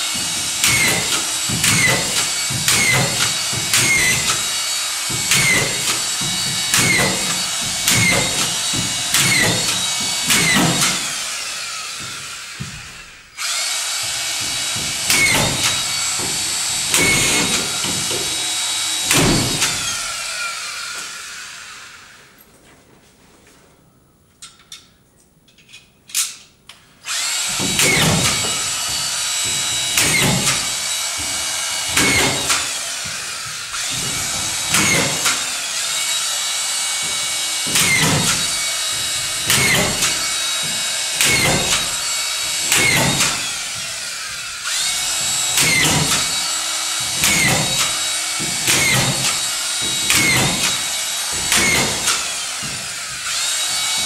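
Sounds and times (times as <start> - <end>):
screw gun motor whining: 0.0 - 22.1, 27.0 - 54.0.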